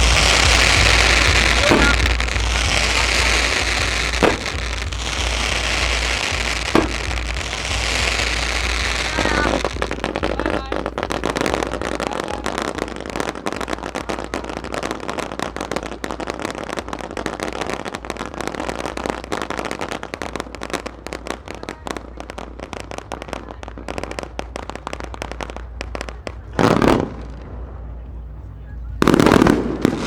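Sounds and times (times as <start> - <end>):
fireworks crackling and popping: 0.0 - 30.0
loud firework burst: 0.0 - 30.0.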